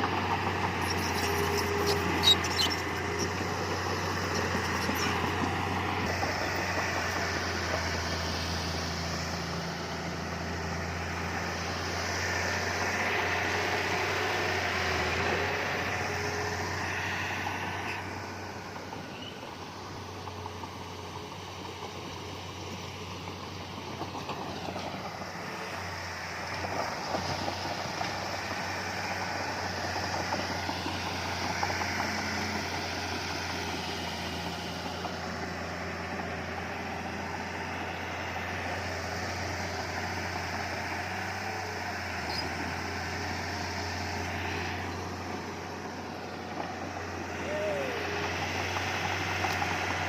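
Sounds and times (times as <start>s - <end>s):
heavy machinery diesel engine running: 0.0s - 50.0s.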